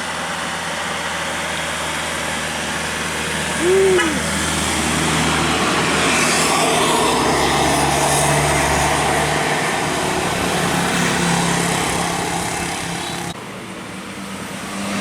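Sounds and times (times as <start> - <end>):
heavy vehicle engine drone: 0.0 - 15.0
tyre and road noise: 0.0 - 15.0.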